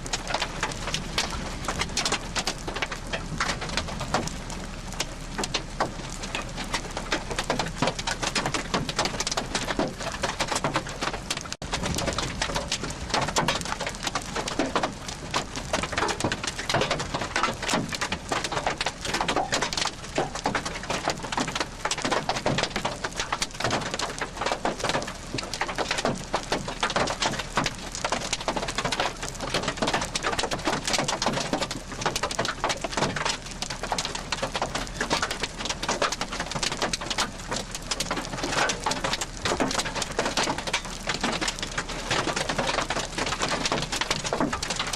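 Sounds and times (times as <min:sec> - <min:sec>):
heavy rain on hard surface: 0:00.0 - 0:44.9.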